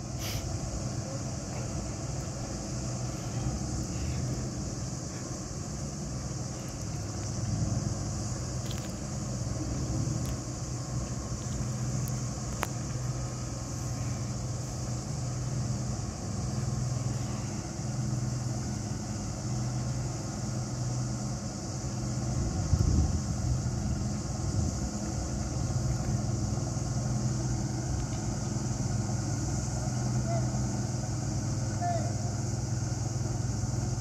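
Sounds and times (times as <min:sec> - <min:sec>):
boat engine hum: 0:00.0 - 0:34.0
high hiss: 0:00.0 - 0:34.0.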